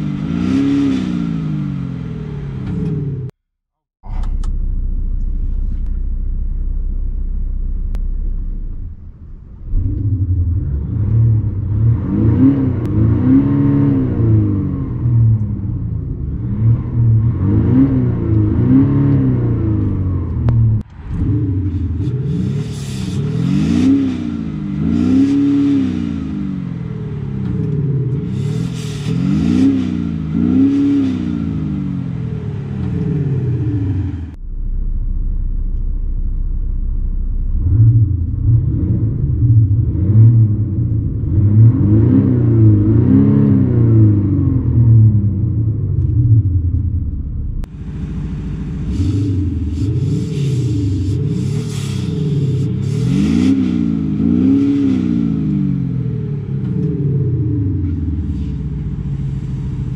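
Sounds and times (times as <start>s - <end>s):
diesel engine revving: 0.0s - 3.4s, 4.0s - 59.9s
low exhaust drone: 4.0s - 59.9s.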